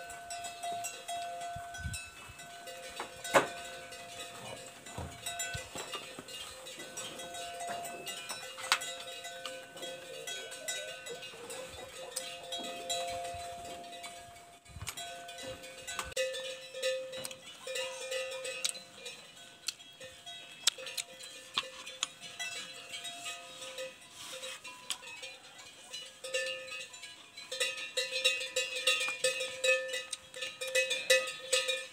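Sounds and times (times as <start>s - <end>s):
animal bells ringing: 0.0s - 31.9s.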